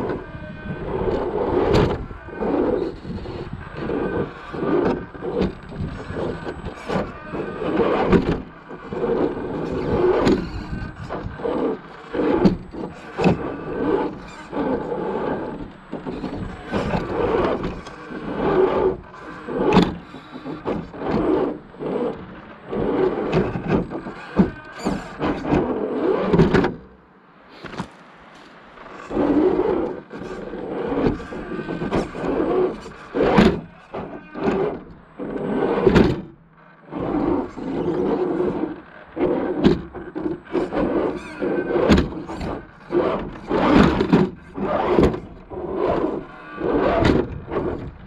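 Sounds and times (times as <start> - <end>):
electric motor whining: 0.0 - 48.0
scrapes and knocks of toy car: 0.0 - 48.0.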